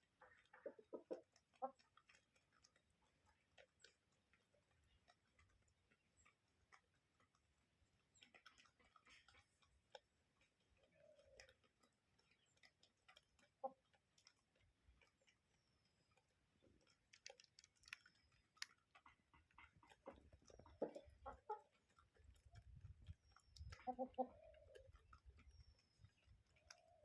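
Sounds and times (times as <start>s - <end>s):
faint ticks and clicks: 0.0s - 27.0s.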